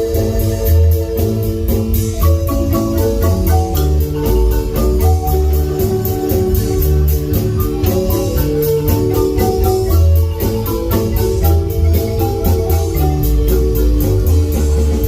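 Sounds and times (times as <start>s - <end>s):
marimba ensemble playing: 0.0s - 15.0s.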